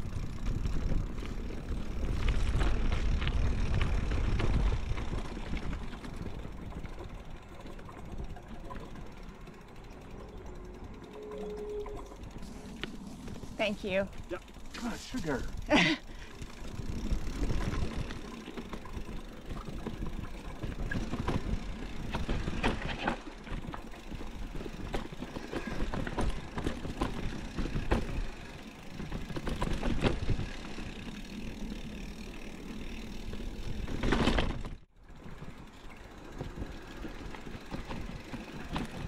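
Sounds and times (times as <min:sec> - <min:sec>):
bike rattling over bumps: 0:00.0 - 0:39.0
rumble of bike tyres on dirt: 0:00.0 - 0:39.0.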